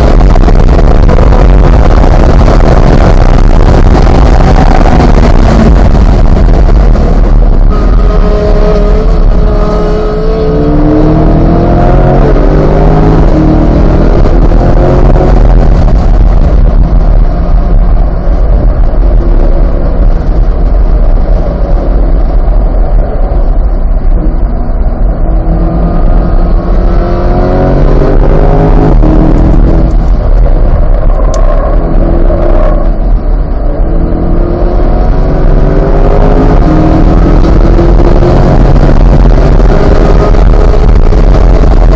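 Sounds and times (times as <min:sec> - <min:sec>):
car engine accelerating hard: 0:00.0 - 0:41.9
wind and road noise: 0:00.0 - 0:41.9.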